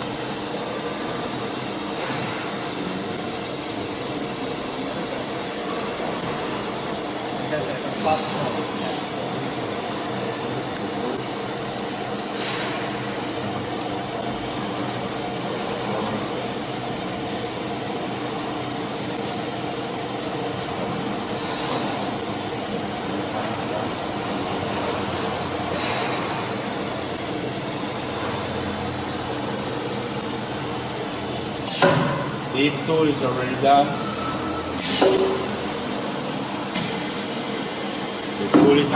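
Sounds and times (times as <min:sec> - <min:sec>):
cnc router humming: 0:00.0 - 0:38.9.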